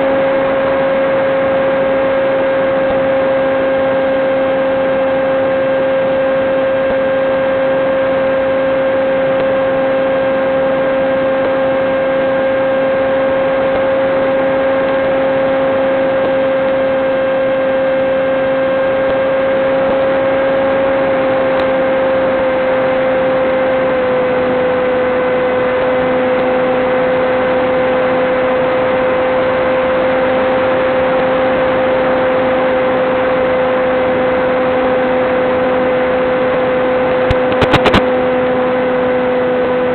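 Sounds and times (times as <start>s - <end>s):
electric motor and propeller droning: 0.0s - 39.9s.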